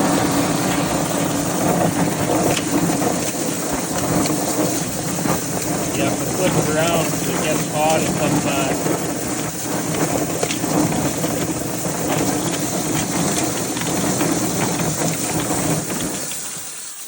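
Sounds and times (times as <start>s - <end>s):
motor hum: 0.0s - 17.0s.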